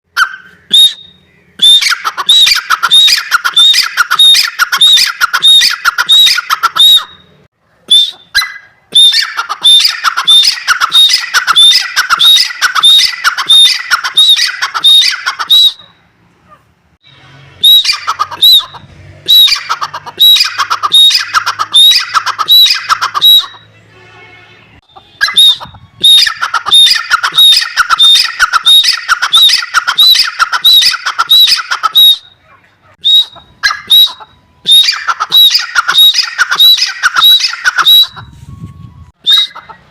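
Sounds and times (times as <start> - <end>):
bird harsh repeated calls: 0.1 - 23.9, 24.8 - 38.3, 39.2 - 39.9.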